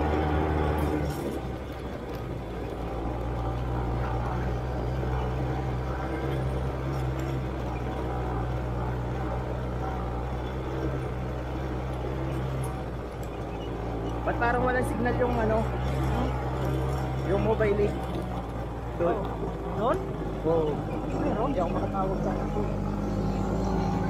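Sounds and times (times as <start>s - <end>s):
quad bike engine running: 0.0s - 24.0s.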